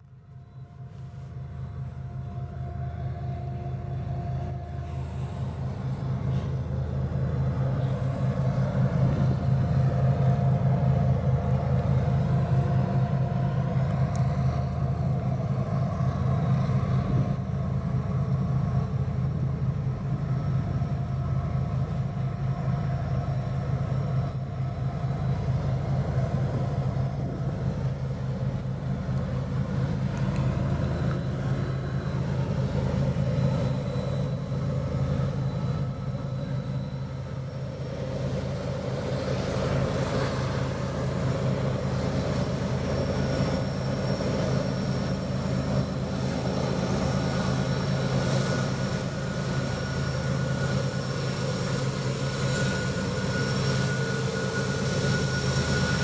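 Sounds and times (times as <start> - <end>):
diesel locomotive engines droning: 0.0 - 56.0.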